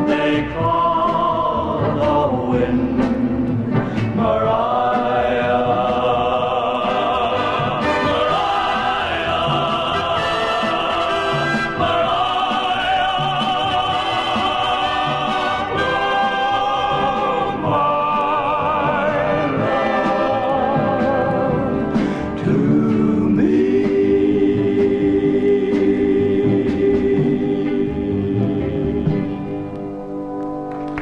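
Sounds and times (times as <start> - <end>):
male vocal quartet singing: 0.0 - 29.6
orchestral backing: 0.0 - 31.0.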